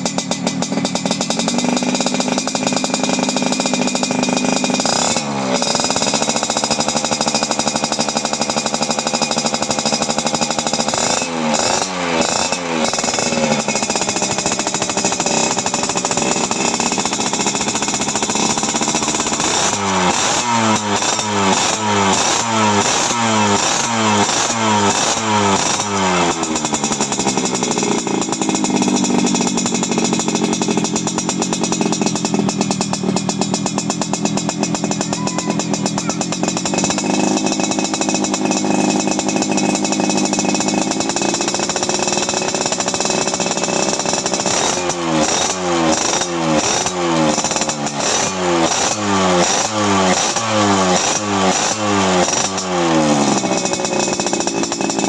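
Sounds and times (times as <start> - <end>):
two-stroke motorcycle engine revving: 0.0 - 55.0.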